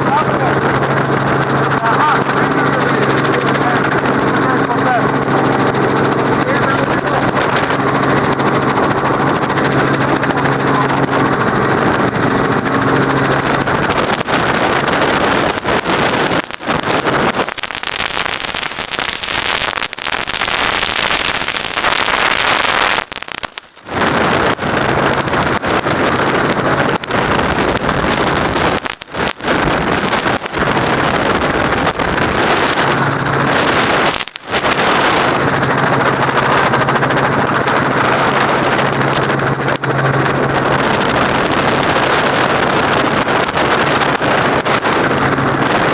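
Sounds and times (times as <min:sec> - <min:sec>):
helicopter engine and rotor: 0:00.0 - 0:17.5, 0:23.9 - 0:45.9
low hum: 0:00.0 - 0:45.9.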